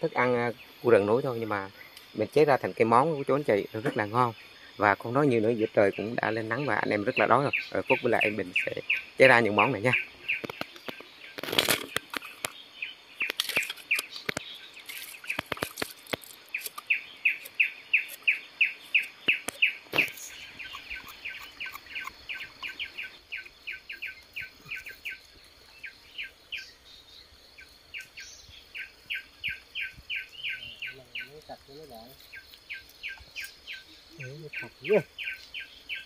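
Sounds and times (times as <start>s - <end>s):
high insect drone: 0.0s - 36.0s
bird chirping quickly: 0.4s - 15.7s, 16.5s - 36.0s.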